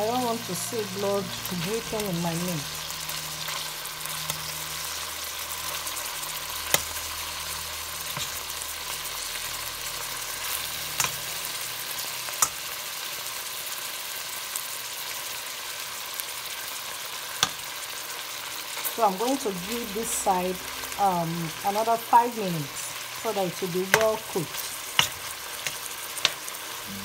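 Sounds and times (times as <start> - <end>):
beef sizzling in a pan: 0.0 - 27.0.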